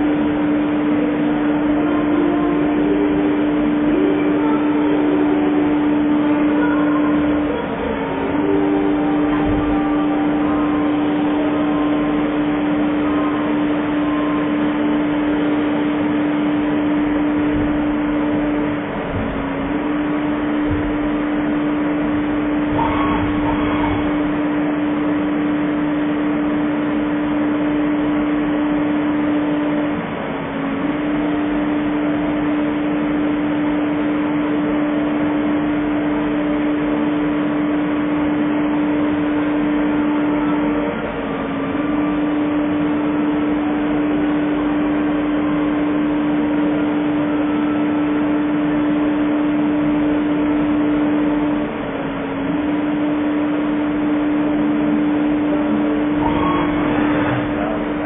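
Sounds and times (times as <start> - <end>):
lathe mechanical hum: 0.0 - 58.0.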